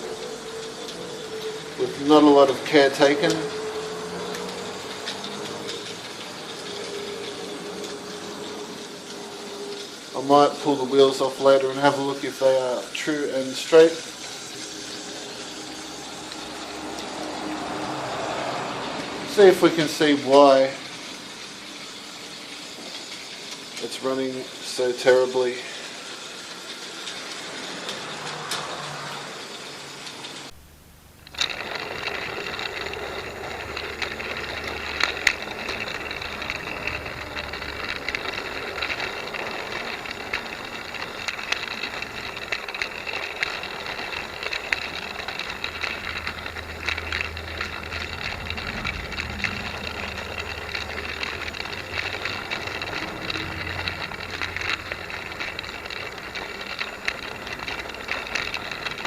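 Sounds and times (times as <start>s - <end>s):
small clicks and rattles: 0.0s - 30.6s, 31.2s - 59.0s
toy locomotive motor whirring: 0.0s - 59.0s.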